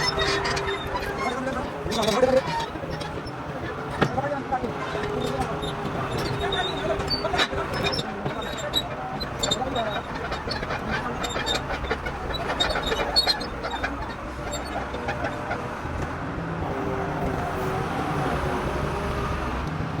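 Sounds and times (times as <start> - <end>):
heavy machinery rumbling: 0.0 - 20.0.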